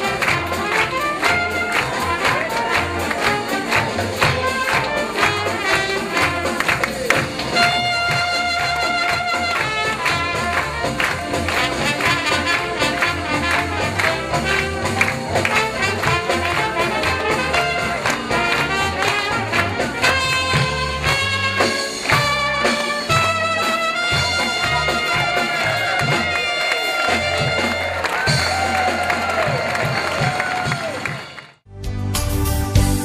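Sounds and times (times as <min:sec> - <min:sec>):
trumpet playing lead: 0:00.0 - 0:31.2
drums steady beat: 0:00.0 - 0:33.0
live band: 0:00.0 - 0:33.0.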